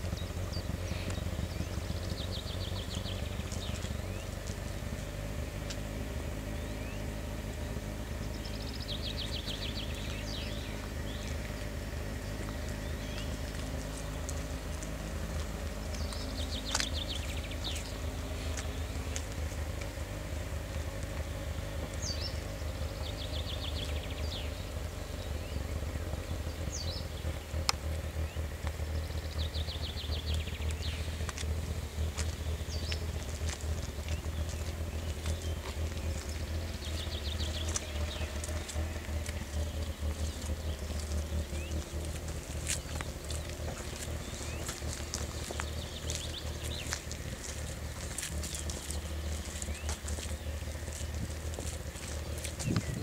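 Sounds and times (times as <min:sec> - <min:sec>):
steady low rumble: 0:00.0 - 0:53.0
songbird trilling: 0:06.4 - 0:53.0.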